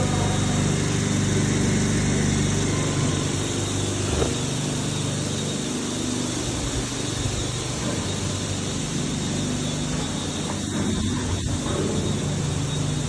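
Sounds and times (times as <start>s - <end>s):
mixer machinery motor hum: 0.0s - 13.0s.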